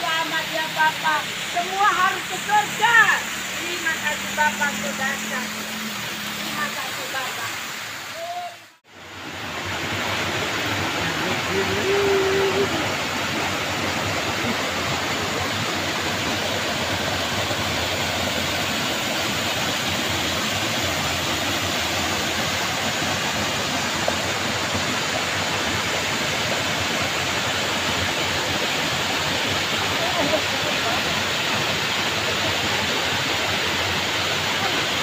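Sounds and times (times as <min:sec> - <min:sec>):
waterfall rushing over rocks: 0:00.0 - 0:35.0.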